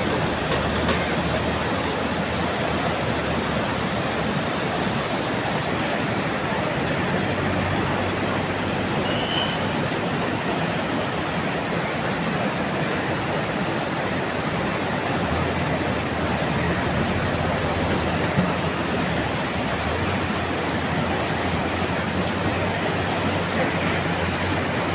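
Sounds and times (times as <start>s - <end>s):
diesel engine hum: 0.0s - 24.9s
river roaring: 0.0s - 24.9s.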